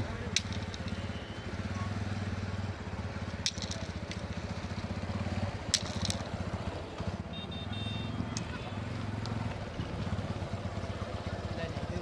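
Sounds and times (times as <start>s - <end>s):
motorcycle engine puttering: 0.0s - 12.0s.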